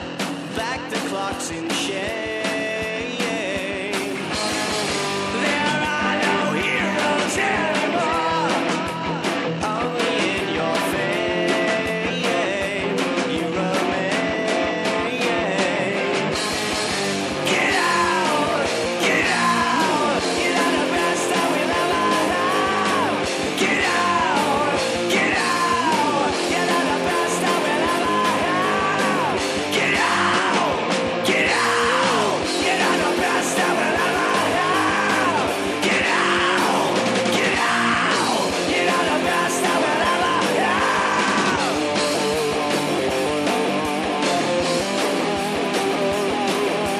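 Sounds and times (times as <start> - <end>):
high sliding guitar line: 0.0 - 46.9
rock band playing: 0.0 - 46.9.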